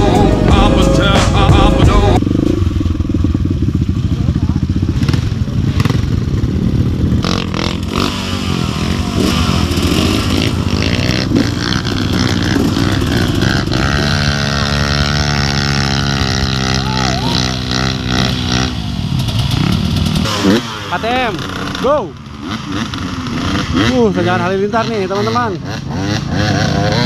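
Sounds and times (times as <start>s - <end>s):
dirt bike engines running: 0.0s - 27.0s.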